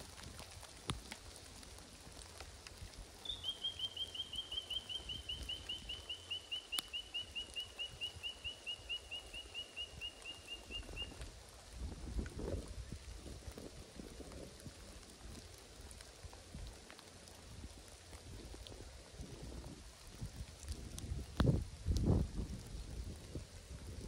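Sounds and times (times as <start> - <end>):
light rain hiss: 0.0 - 24.0.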